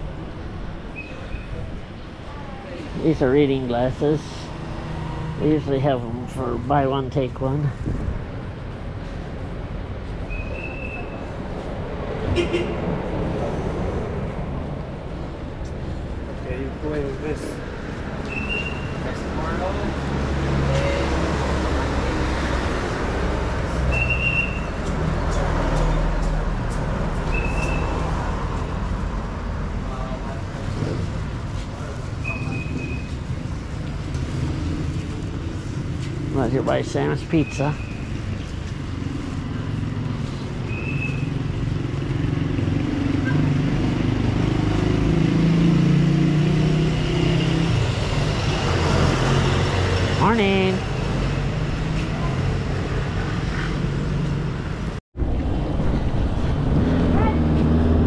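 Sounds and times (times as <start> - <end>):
passing vehicle engines: 0.0 - 58.0
road noise: 0.0 - 58.0.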